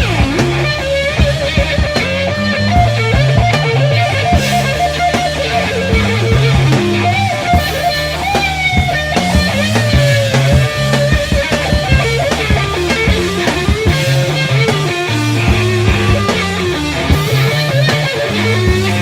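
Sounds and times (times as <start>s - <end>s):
drums: 0.0s - 19.0s
electric bass: 0.0s - 19.0s
lead electric guitar: 0.0s - 19.0s.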